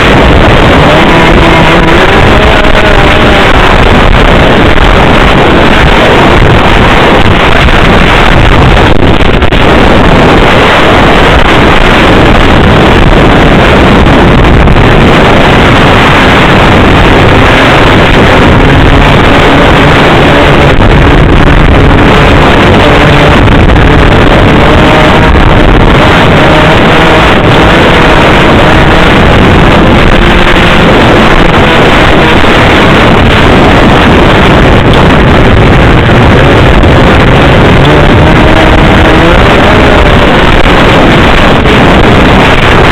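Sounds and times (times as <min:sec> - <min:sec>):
snowmobile engine running: 0:00.0 - 0:42.9.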